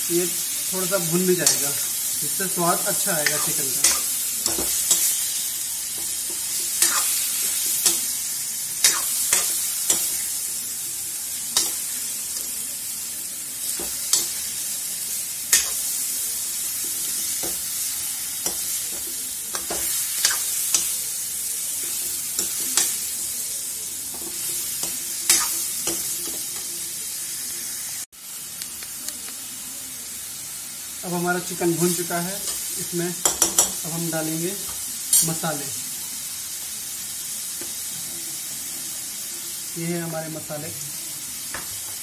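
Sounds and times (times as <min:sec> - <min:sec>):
chicken sizzling in hot oil: 0:00.0 - 0:42.0.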